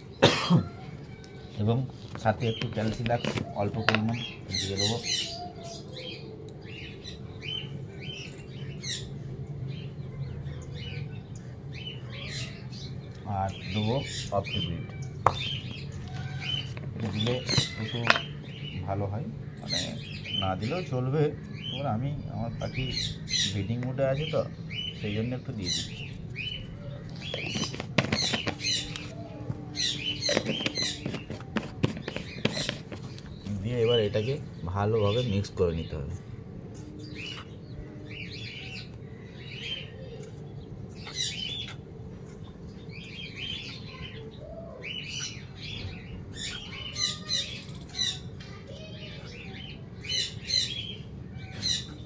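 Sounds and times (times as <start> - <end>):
low background hum: 0.0 - 52.0
small birds chirping: 0.0 - 52.0.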